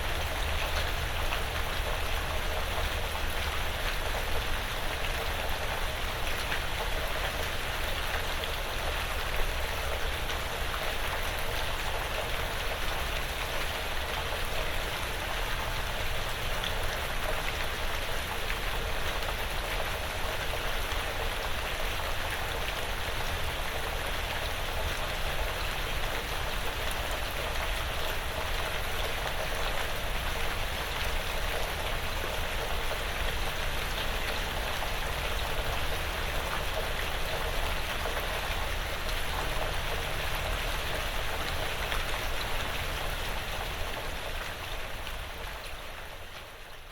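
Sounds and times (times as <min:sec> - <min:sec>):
light rain on a porch roof: 0:00.0 - 0:46.9.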